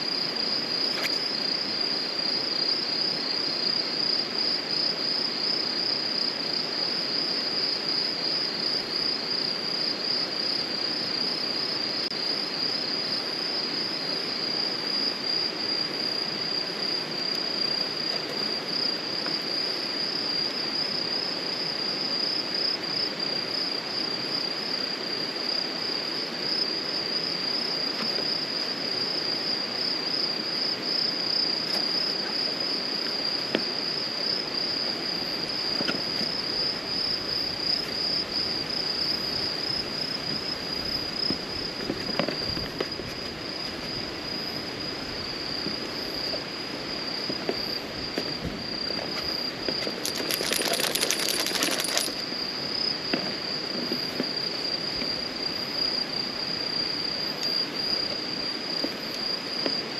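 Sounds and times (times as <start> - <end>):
crickets chirping: 0.0 - 59.9
steady low hiss: 0.0 - 59.9.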